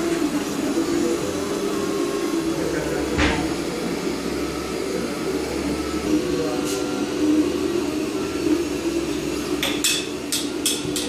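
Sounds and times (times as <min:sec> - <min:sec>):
printer motor tones: 0:00.0 - 0:10.4
cooling fans whirring: 0:00.0 - 0:11.0.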